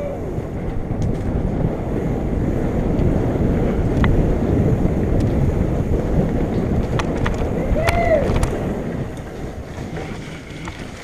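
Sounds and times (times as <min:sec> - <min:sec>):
bike tyres rumbling: 0:00.0 - 0:11.0
wind buffeting microphone: 0:00.0 - 0:11.0.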